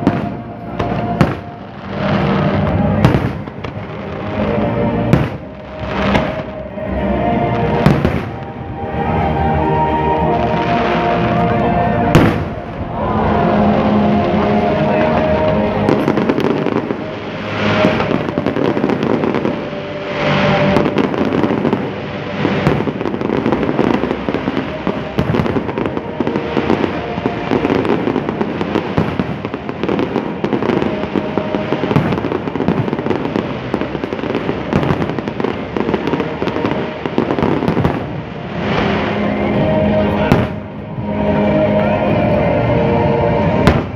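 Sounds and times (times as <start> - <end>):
fireworks bangs and crackling: 0.0 - 41.9, 43.3 - 43.9.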